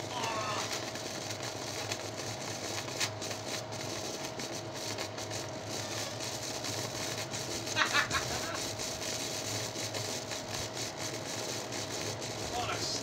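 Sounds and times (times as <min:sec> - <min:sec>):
battery hissing and crackling: 0:00.0 - 0:13.0.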